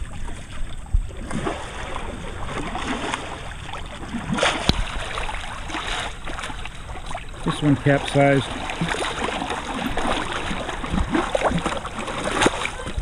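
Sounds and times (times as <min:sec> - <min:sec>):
pool water sloshing and splashing: 0:00.0 - 0:13.0.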